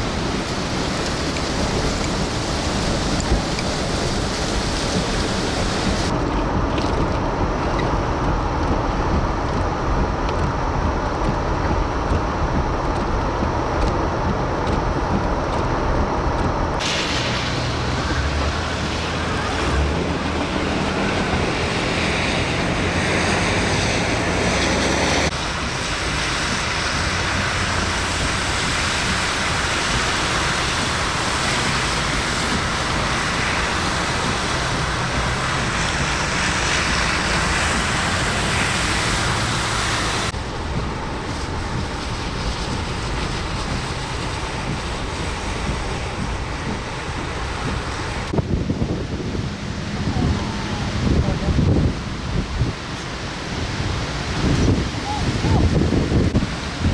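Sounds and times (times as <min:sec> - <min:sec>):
blowing rain: 0:00.0 - 0:56.9
strong storm winds: 0:00.0 - 0:56.9
wind rumble on microphone: 0:00.0 - 0:56.9.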